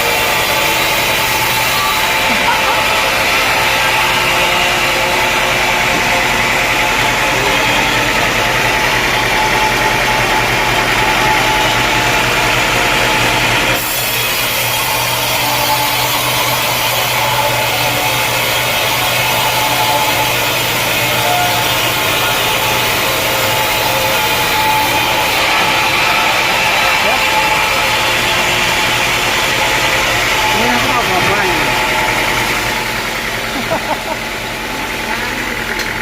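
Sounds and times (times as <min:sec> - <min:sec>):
power saw cutting through log: 0:00.0 - 0:36.0
steady engine drone: 0:00.0 - 0:36.0.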